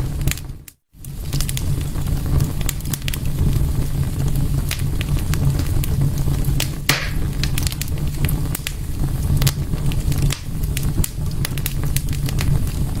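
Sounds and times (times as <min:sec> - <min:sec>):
fire pops with hiss: 0:00.0 - 0:13.0
wood fire crackling: 0:00.0 - 0:13.0.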